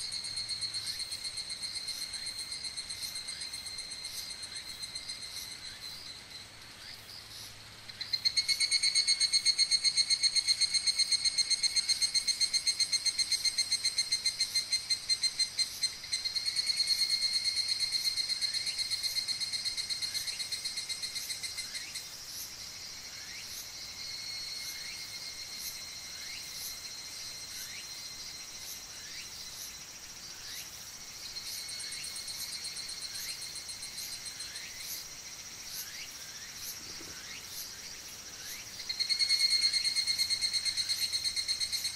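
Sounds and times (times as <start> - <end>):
cicadas singing: 0.0 - 41.9.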